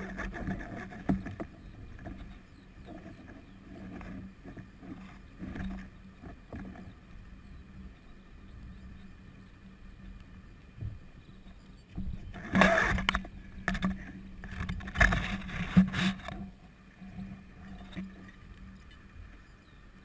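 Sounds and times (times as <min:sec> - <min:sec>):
parachute lines rustling and scraping: 0:00.0 - 0:07.9, 0:08.7 - 0:19.4.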